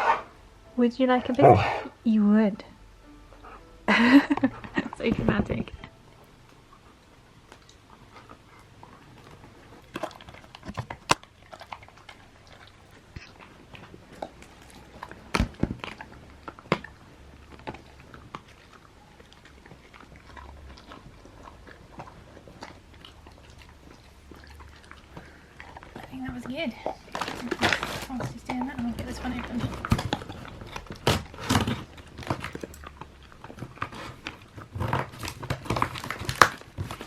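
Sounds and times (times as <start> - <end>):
dog chewing with wet crunches: 4.2 - 37.0.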